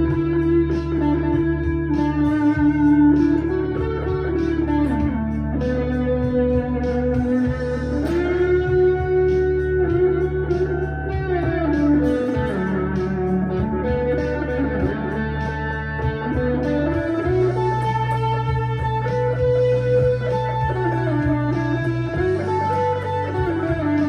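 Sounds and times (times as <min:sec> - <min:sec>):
low bass: 0:00.0 - 0:24.0
overdriven electric guitar blues lead: 0:00.0 - 0:24.0.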